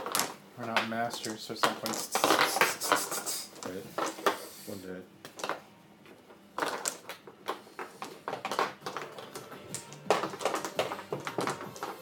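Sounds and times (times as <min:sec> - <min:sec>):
mahjong tiles clacking: 0:00.0 - 0:04.4, 0:05.2 - 0:05.7, 0:06.3 - 0:12.0.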